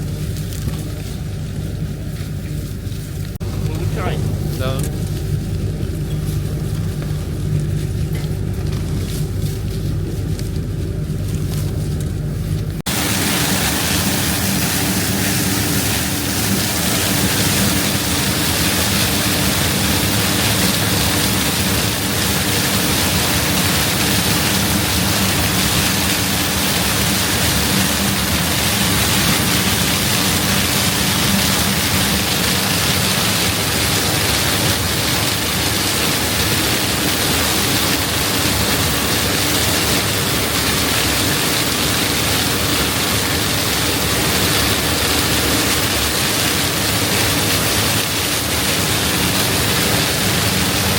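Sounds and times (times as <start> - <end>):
combine harvester rushing noise: 0.0 - 50.9
engine hum: 0.0 - 50.9.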